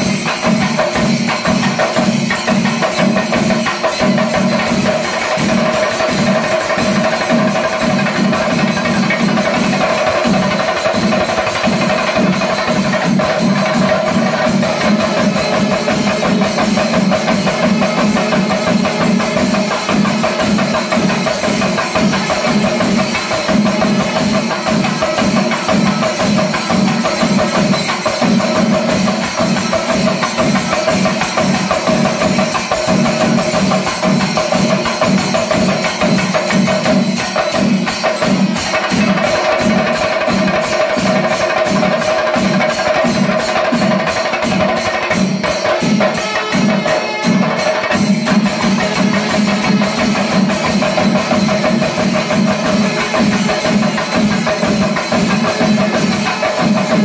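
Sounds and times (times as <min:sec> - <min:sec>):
drums beaten fast: 0:00.0 - 0:57.0
hand cymbals ringing: 0:00.0 - 0:57.0.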